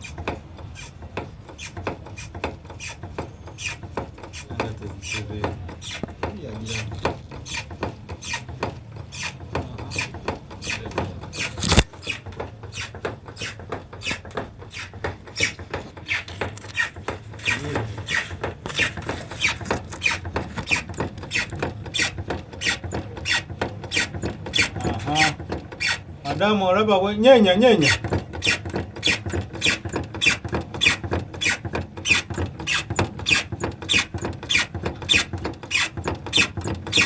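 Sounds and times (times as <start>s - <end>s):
car steering rack squeaking: 0.0s - 37.0s.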